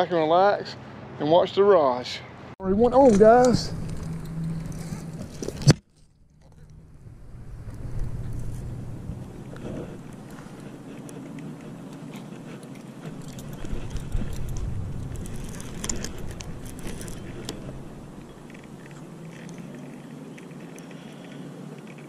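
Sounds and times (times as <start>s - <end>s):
low steady rumble: 2.6s - 21.2s.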